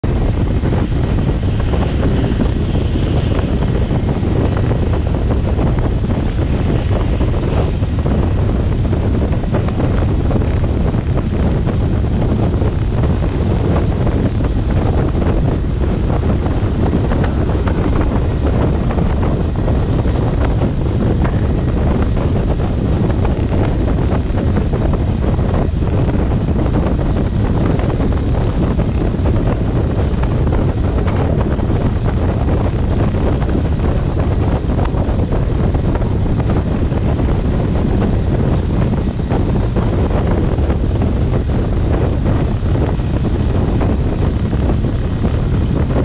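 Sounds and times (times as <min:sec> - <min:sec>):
aircraft engine and propeller drone: 0:00.0 - 0:46.0
loud wind noise on microphone: 0:00.0 - 0:46.0.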